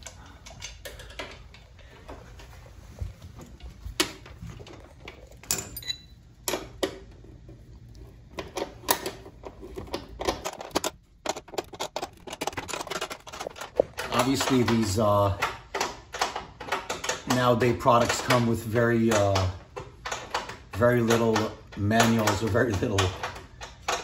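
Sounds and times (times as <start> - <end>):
tools clicking and knocking: 0.0 - 2.4, 3.5 - 24.0.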